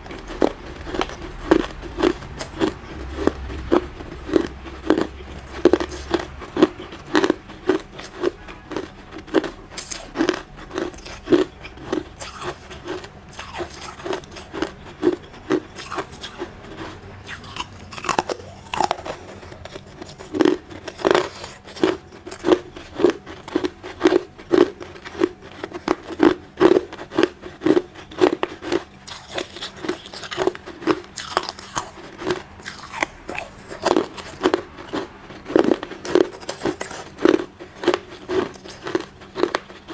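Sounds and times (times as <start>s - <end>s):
chewing ice crunches: 0.0s - 39.9s.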